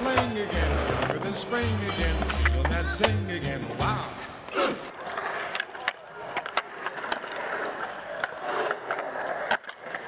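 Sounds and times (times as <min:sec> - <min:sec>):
skateboard clacking on ground: 0:00.0 - 0:03.2, 0:04.0 - 0:10.0
skateboard wheels rolling on concrete: 0:00.0 - 0:10.0.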